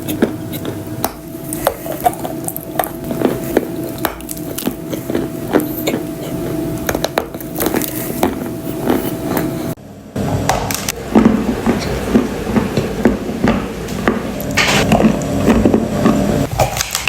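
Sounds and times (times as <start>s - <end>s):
clay being chewed crunchily: 0.0s - 9.8s, 11.1s - 17.0s
faint steady hum: 0.0s - 16.5s.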